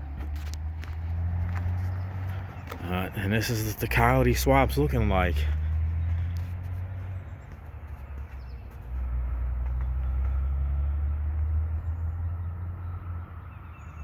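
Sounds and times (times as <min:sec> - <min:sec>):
car engine idling rumble: 0:00.0 - 0:13.8.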